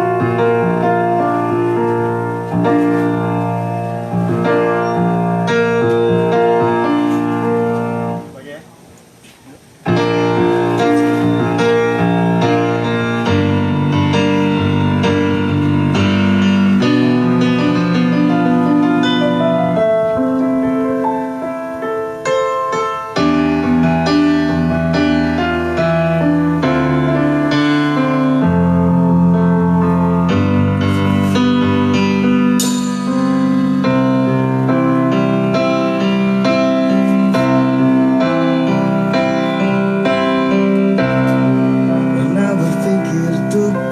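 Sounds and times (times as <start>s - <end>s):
keyboard chords and melody: 0.0s - 8.4s, 9.8s - 43.9s.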